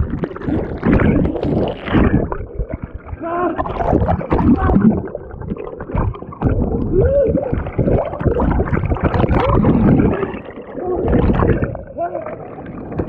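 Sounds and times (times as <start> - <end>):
muffled water gurgling: 0.0 - 13.0.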